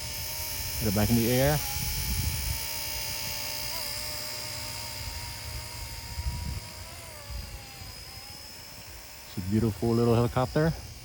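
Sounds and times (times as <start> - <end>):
rc helicopter motor and rotor whine: 0.0 - 11.0
wind rumbling on microphone: 0.0 - 11.0.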